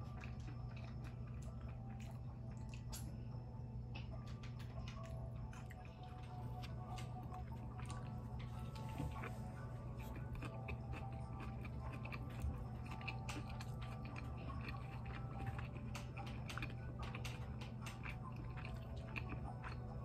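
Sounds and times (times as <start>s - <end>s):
biting and chewing burger: 0.0s - 3.1s, 3.9s - 20.0s.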